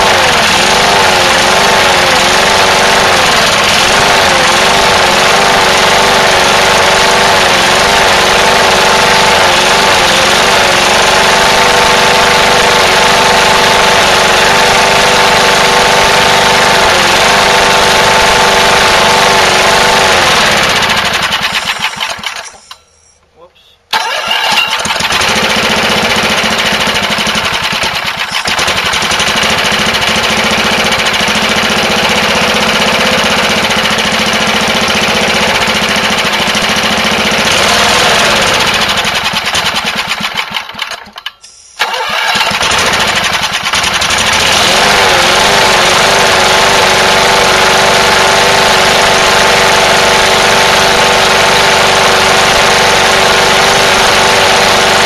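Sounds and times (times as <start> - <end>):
push mower engine running: 0.0 - 22.7, 23.9 - 55.0.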